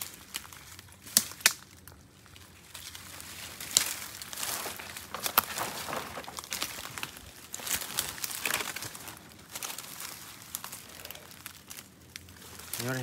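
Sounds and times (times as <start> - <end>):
footsteps through dry leaves: 0.0 - 13.0.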